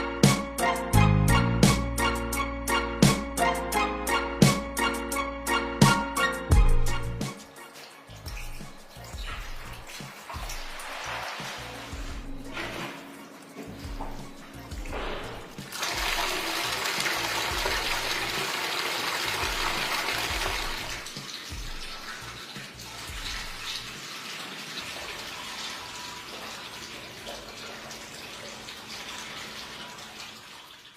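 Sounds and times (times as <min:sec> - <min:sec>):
water running: 0:02.8 - 0:30.9.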